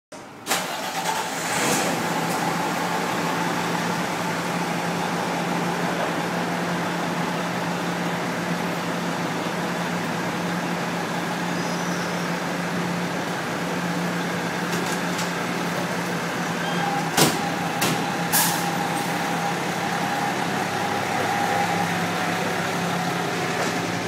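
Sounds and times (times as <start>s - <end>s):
diesel engine idling: 0.6s - 24.0s.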